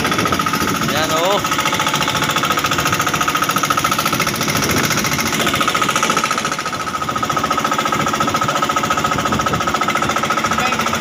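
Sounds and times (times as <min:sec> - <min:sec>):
boat engine knocking: 0:00.0 - 0:11.0
high engine whine: 0:00.0 - 0:11.0.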